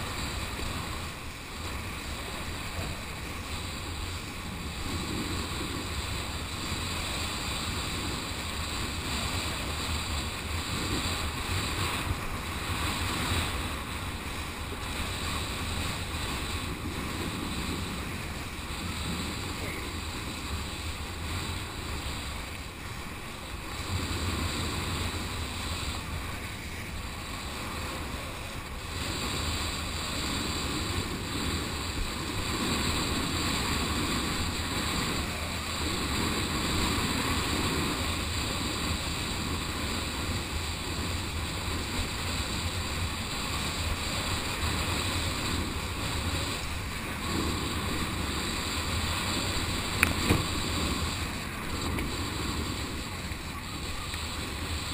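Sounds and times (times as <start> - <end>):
water rushing and hissing: 0.0 - 54.9
wind buffeting microphone: 0.0 - 54.9.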